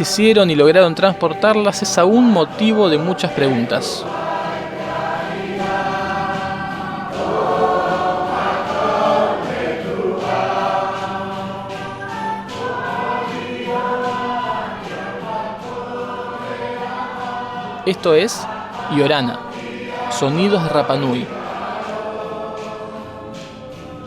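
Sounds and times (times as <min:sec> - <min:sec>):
choir singing long notes: 0:00.0 - 0:24.0.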